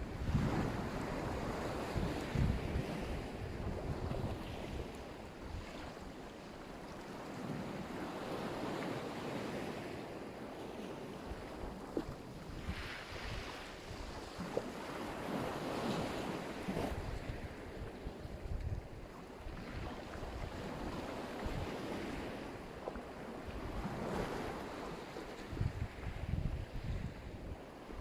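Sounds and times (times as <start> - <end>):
wind rumbling on microphone: 0.0 - 6.2, 11.1 - 28.0
waves breaking on shore: 0.0 - 28.0.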